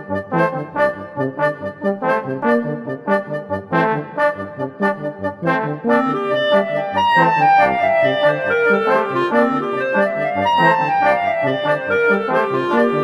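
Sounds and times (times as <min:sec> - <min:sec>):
instrumental theme music: 0:00.0 - 0:13.0.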